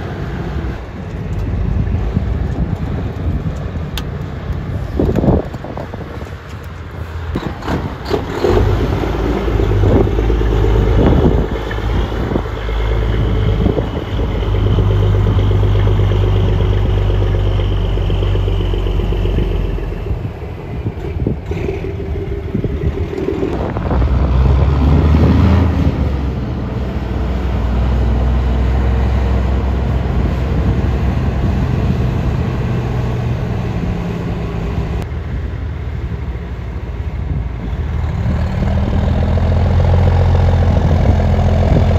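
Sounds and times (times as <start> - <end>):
truck diesel engine passing: 0.0 - 41.9.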